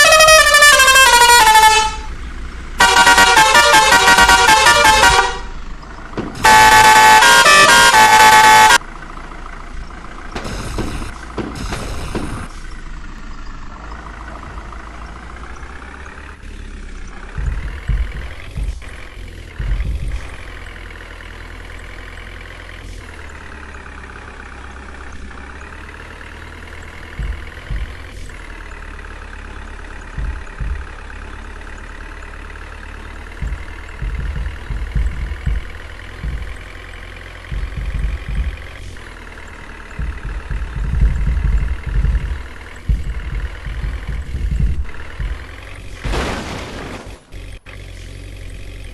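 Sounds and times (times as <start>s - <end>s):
heavy diesel engine running: 0.0s - 48.9s
low rumbles: 0.0s - 48.9s.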